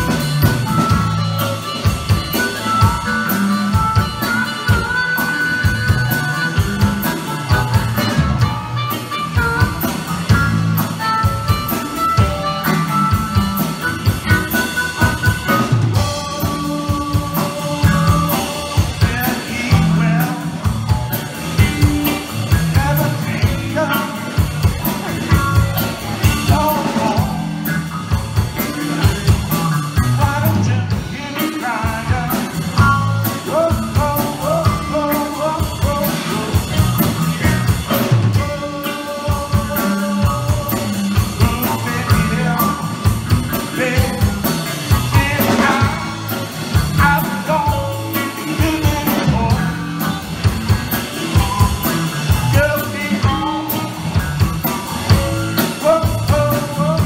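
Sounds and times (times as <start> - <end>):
blues band playing: 0.0 - 57.0
drum kit beat: 0.0 - 57.0
electric guitar lead melody: 0.0 - 57.0.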